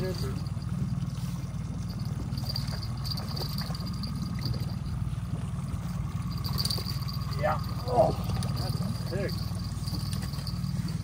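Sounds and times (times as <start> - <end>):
outboard motor running: 0.0 - 11.0
water splashing and trickling: 0.0 - 11.0.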